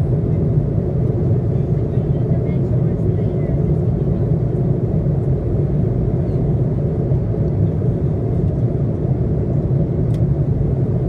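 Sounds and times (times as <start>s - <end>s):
airplane cabin low roar: 0.0s - 11.0s.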